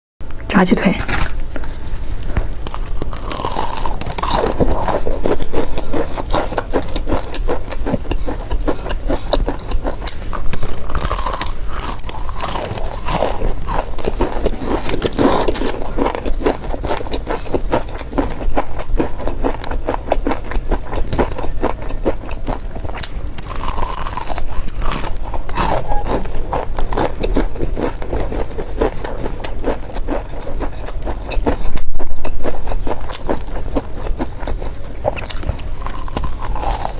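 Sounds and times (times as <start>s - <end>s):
low steady hum: 0.2s - 36.9s
chewing crispy fried chicken: 1.0s - 36.9s.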